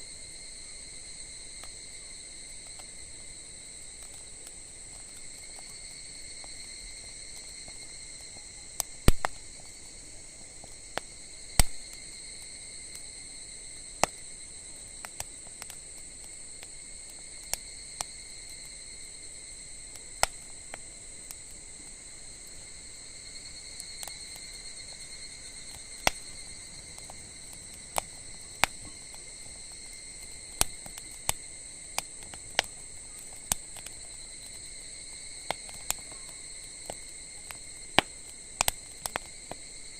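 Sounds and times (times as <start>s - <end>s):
insects droning: 0.0s - 39.9s
wood fire crackling and popping: 0.0s - 39.9s.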